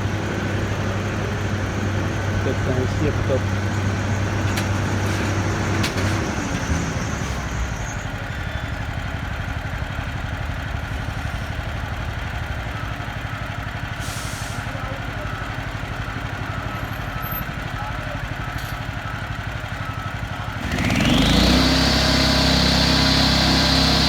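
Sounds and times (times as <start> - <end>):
engine idling with even throb: 0.0 - 24.0
vehicle engine moving off: 0.0 - 24.0.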